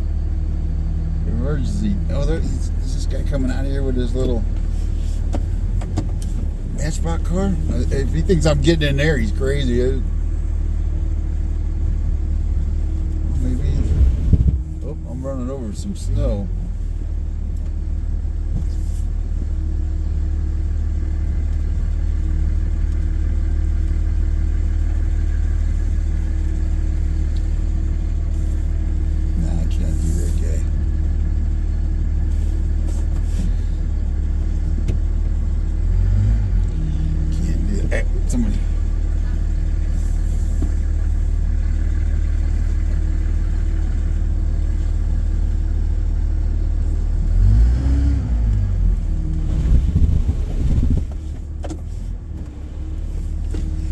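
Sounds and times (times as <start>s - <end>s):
truck engine and tyre rumble: 0.0s - 53.9s.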